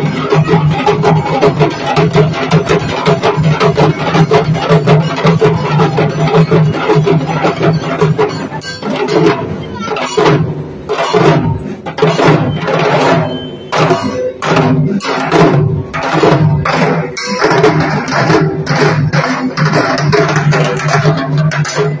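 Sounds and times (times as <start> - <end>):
barrel drums beaten in rhythm: 0.0 - 22.0.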